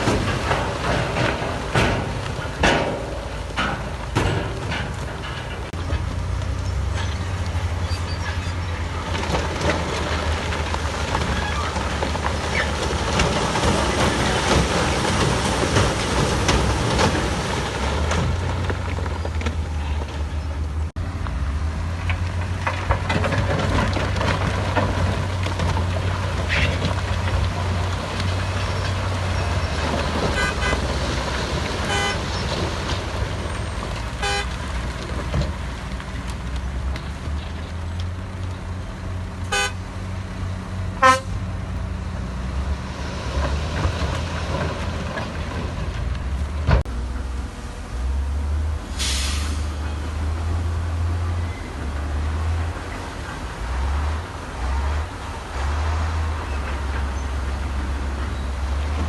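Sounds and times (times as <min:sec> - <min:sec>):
clatter and knocks of work: 0:00.0 - 0:20.8, 0:22.0 - 0:38.9, 0:42.5 - 0:47.0, 0:51.8 - 0:59.0
diesel earthmoving machinery running: 0:00.0 - 0:59.0.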